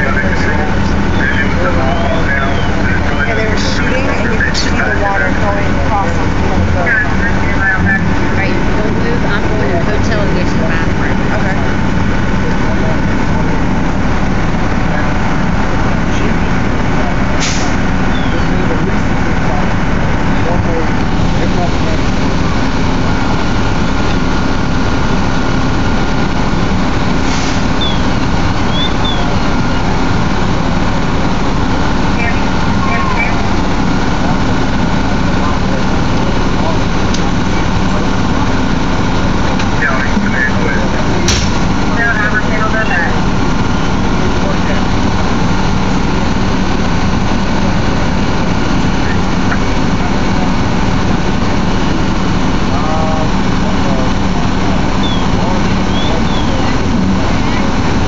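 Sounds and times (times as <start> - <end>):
heavy engine rumble: 0.0 - 58.0.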